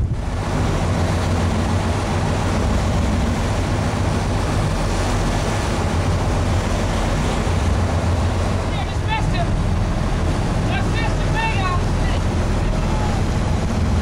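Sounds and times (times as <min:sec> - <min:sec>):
boat engine humming: 0:00.0 - 0:14.0
wake rushing: 0:00.0 - 0:14.0
wind: 0:00.0 - 0:14.0.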